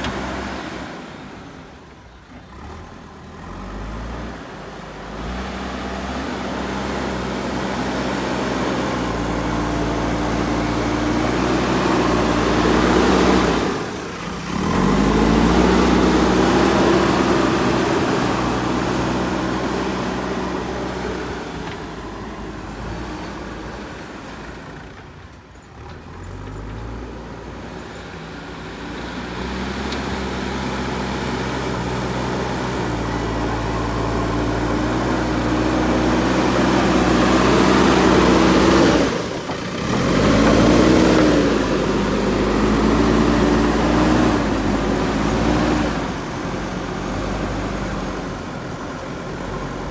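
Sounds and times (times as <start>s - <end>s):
diesel engine working under load: 0.0s - 49.9s.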